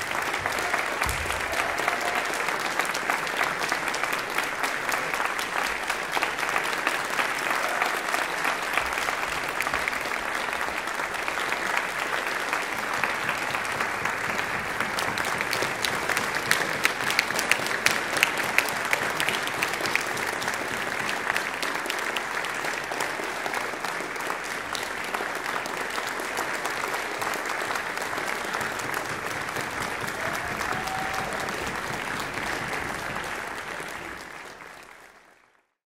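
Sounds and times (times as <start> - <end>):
sharp claps: 0.0 - 35.4
audience applauding: 0.0 - 35.8.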